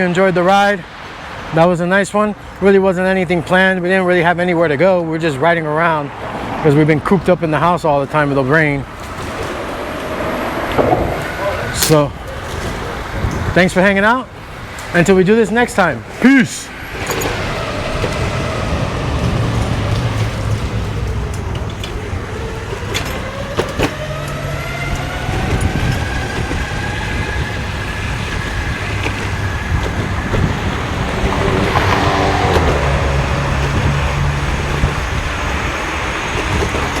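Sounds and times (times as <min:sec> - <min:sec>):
low road noise rumble: 0:00.0 - 0:37.0.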